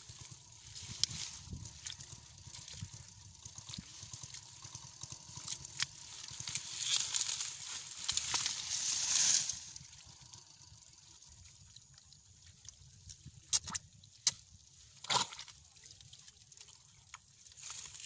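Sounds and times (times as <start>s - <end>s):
faint low rumble: 0.0s - 18.0s
wet squelches in mud: 0.1s - 10.1s, 11.4s - 18.0s.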